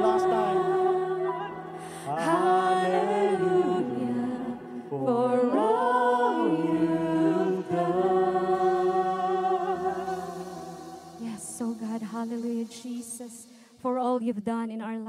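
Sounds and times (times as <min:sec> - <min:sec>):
person singing worship song: 0:00.0 - 0:13.8.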